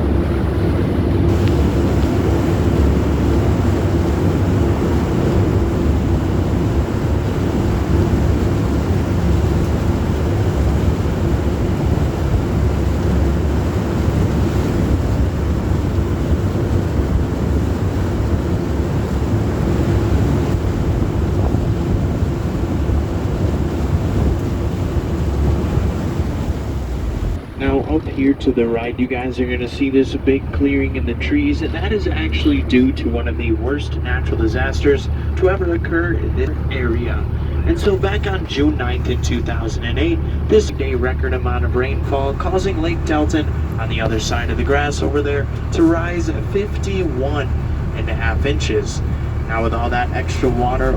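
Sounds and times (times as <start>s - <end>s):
boat engine rumbling: 0.0s - 50.9s
wind buffeting microphone: 0.0s - 50.9s.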